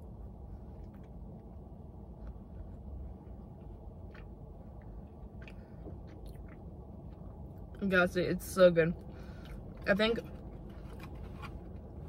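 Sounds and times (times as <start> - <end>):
car cabin hum: 0.0 - 12.0.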